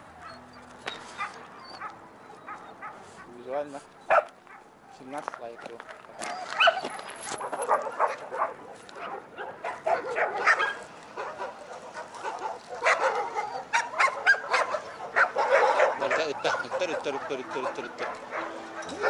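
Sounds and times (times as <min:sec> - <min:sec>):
dogs barking and yelping: 0:00.0 - 0:19.0.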